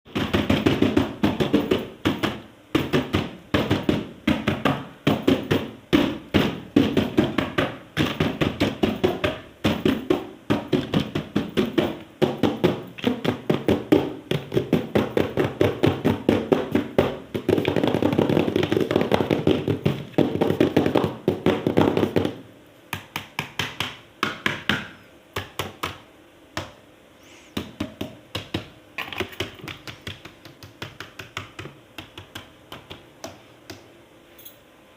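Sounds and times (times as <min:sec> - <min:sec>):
rapid tapping and clicking: 0:00.1 - 0:26.8, 0:27.6 - 0:33.9.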